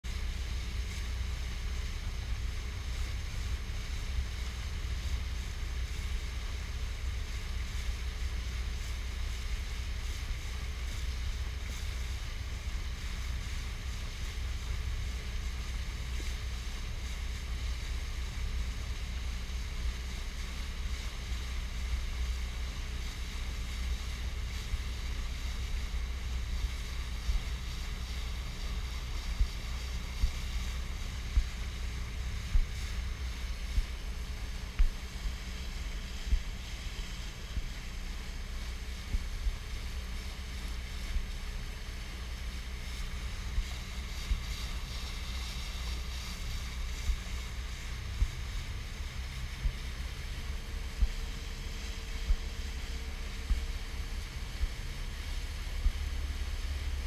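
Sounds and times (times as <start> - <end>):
faint steady hum: 0.0 - 57.0
water rushing along hull: 0.0 - 57.0
wind rumble on microphone: 0.0 - 57.0.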